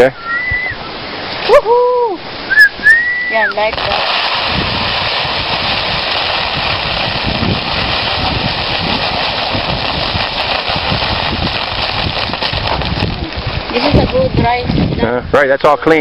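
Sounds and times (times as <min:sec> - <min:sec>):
steady loud hiss: 0:00.0 - 0:16.0
wind buffeting microphone: 0:00.0 - 0:16.0.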